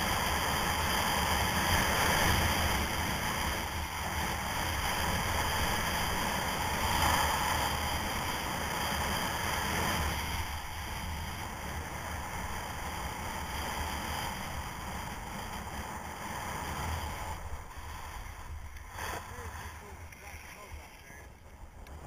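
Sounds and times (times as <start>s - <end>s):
skis scraping over packed snow: 0.0s - 22.0s
wind rushing over microphone: 0.0s - 22.0s.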